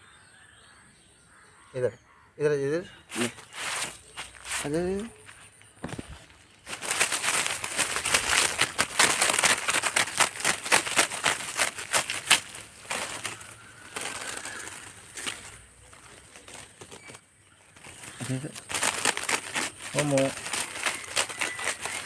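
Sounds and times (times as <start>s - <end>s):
dry vegetation crackling: 3.0s - 22.0s.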